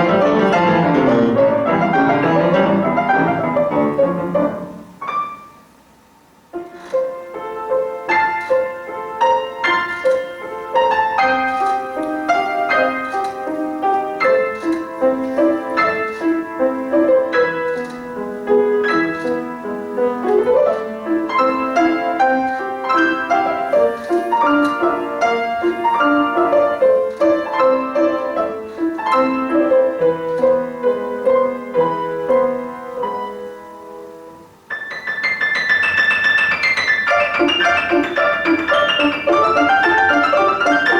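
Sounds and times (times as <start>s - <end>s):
piano melody: 0.0s - 40.9s.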